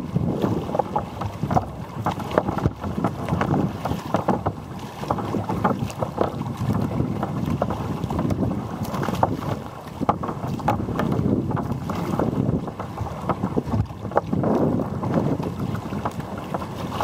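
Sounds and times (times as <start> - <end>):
water splashing against kayak: 0.0 - 17.0
wind buffeting microphone: 0.0 - 17.0.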